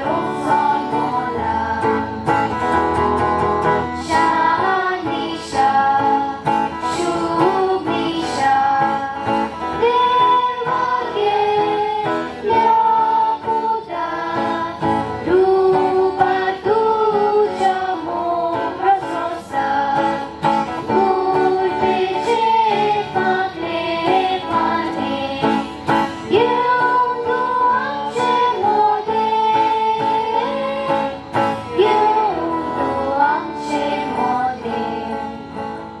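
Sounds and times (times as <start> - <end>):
group singing a carol: 0.0 - 36.0
strummed acoustic guitar: 0.0 - 36.0.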